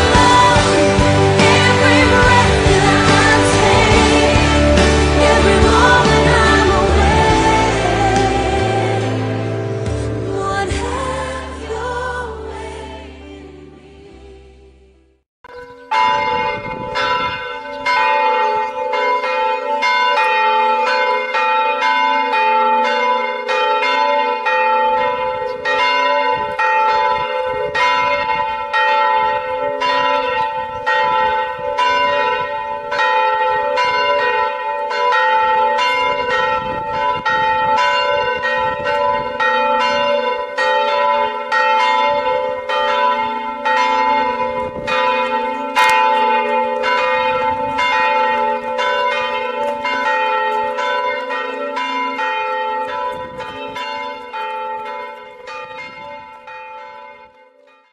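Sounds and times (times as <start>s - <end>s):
church bells pealing: 0.0s - 13.8s, 15.5s - 57.9s.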